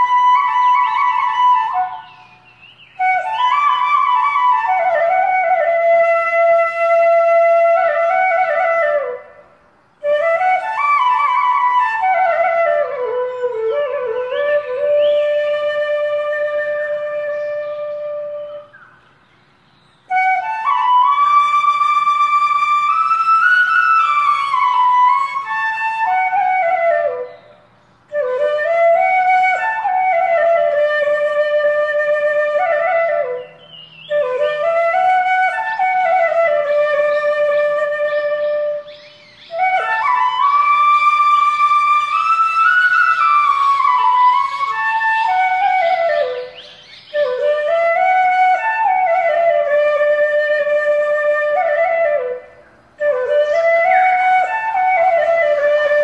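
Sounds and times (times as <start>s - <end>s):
slow flute melody: 0.0s - 9.4s, 10.0s - 18.9s, 20.1s - 56.0s.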